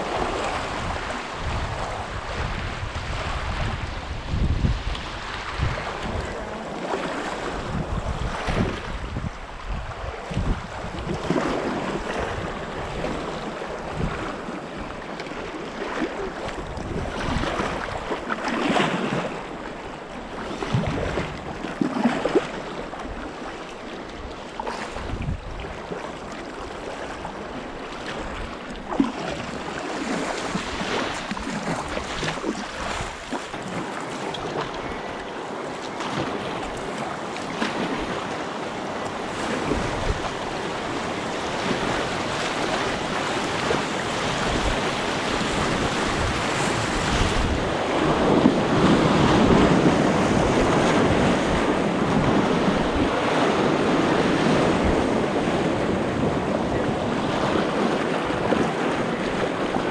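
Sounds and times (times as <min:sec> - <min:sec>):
river water rushing and splashing: 0:00.0 - 0:59.9
wind buffeting microphone: 0:00.0 - 0:59.9.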